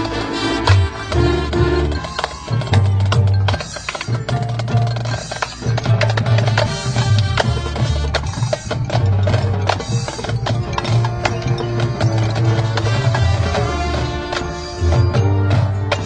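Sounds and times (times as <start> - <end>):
drumline rapid strikes: 0.0 - 16.0
marching band playing: 0.0 - 16.0.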